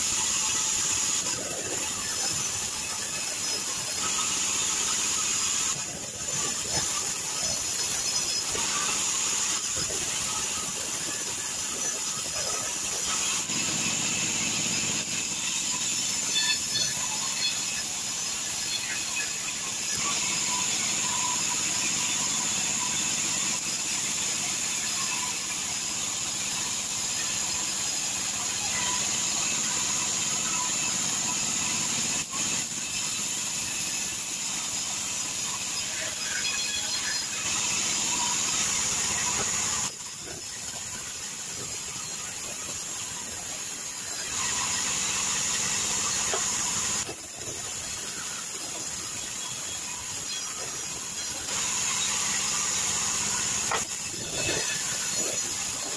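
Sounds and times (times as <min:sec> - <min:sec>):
band saw cutting wood: 0:00.0 - 0:55.9.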